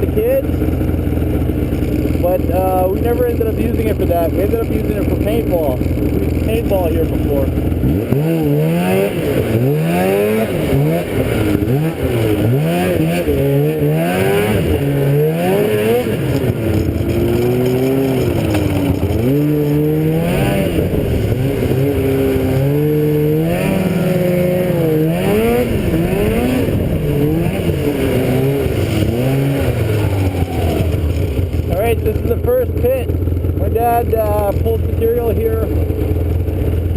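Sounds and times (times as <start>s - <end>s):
vehicle engine revving: 0.0s - 36.9s.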